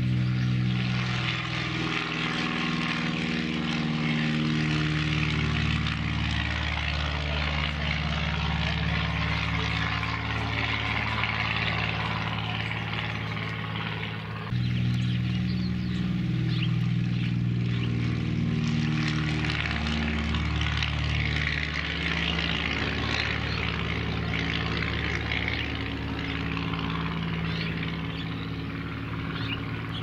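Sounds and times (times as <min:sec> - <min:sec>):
light aircraft propeller engine: 0:00.0 - 0:30.0.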